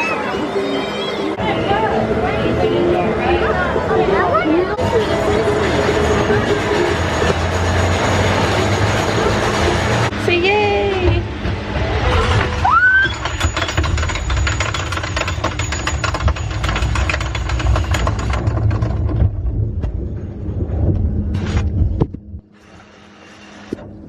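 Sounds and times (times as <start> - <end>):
vehicle rumbling and rattling: 3.0 - 22.6.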